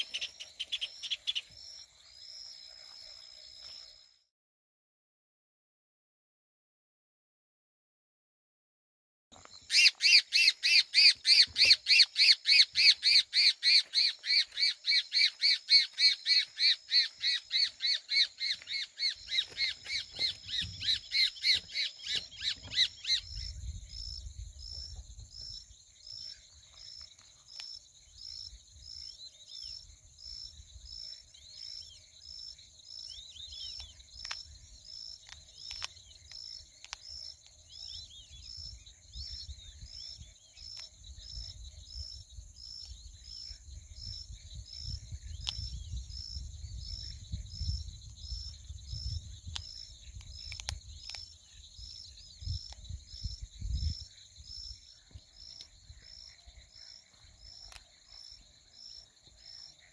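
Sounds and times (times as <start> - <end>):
insects chirping rhythmically: 0.0 - 4.2, 9.4 - 59.9.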